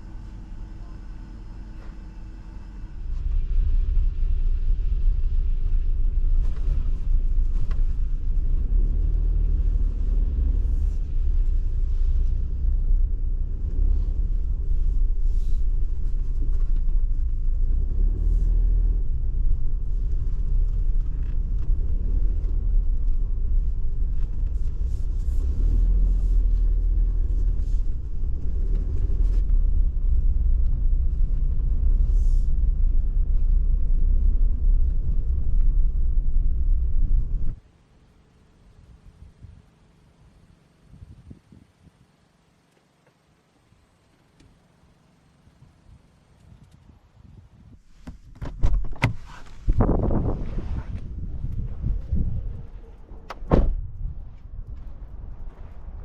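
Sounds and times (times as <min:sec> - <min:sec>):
car road rumble inside cabin: 0:00.0 - 0:56.0.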